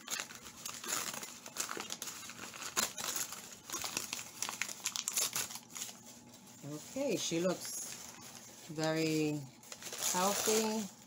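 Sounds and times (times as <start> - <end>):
newspaper crinkling and rustling: 0.0 - 11.0.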